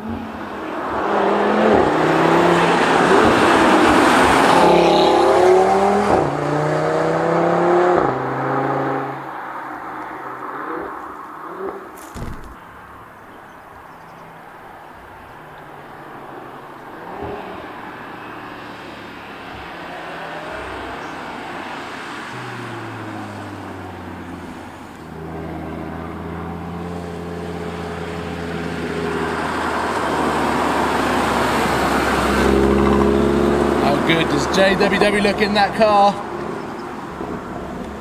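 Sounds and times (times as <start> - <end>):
car engine approaching: 0.0 - 38.0.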